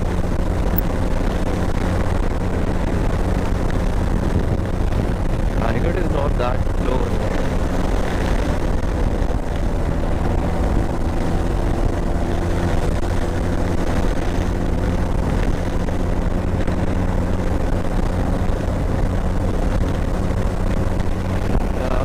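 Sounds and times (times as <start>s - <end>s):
motorcycle engine hum: 0.0s - 22.0s
road and wind noise: 0.0s - 22.0s.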